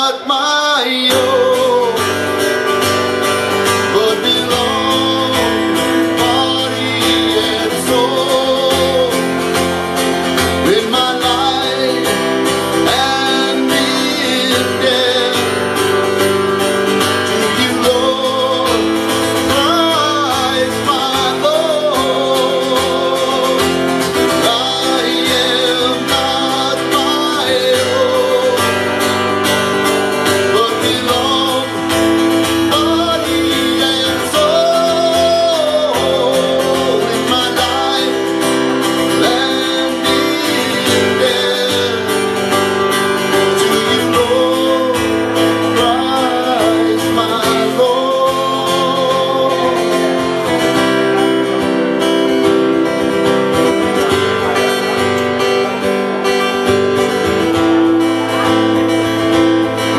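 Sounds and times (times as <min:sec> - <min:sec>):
man singing: 0:00.0 - 0:59.9
strummed acoustic guitar: 0:00.0 - 0:59.9.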